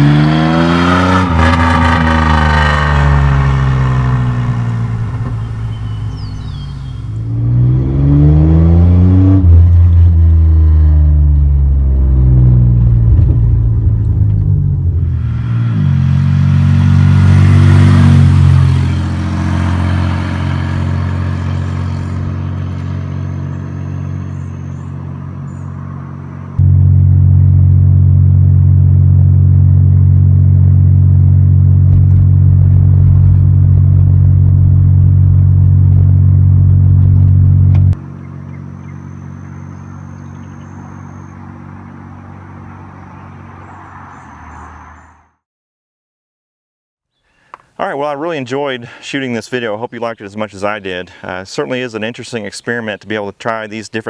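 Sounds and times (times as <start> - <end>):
car engine revving: 0.0 - 45.3.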